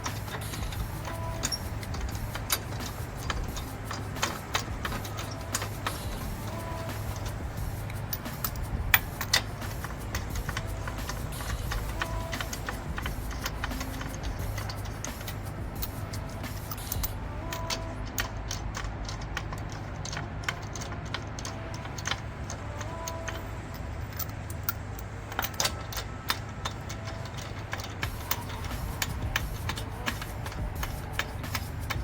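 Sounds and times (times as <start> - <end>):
steady low hum: 0.0 - 32.0
tools clicking and tapping: 0.0 - 32.0.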